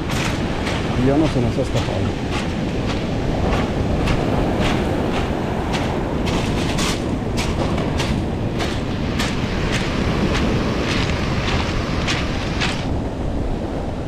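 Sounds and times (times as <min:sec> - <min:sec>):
footsteps crunching on pebbles: 0:00.0 - 0:13.0
breaking surf: 0:00.0 - 0:14.0
wind rumble on microphone: 0:00.0 - 0:14.0.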